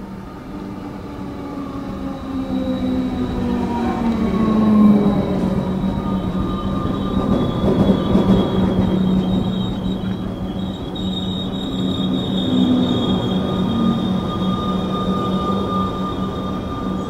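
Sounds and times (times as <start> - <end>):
electric train motors humming: 0.0 - 17.0
high thin squeal: 2.6 - 17.0.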